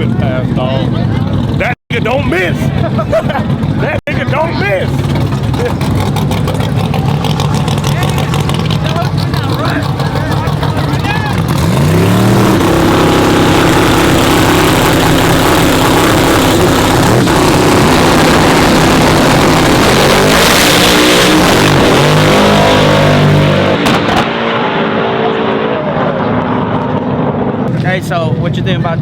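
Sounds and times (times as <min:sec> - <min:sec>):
truck engines at full throttle: 0:00.0 - 0:29.0.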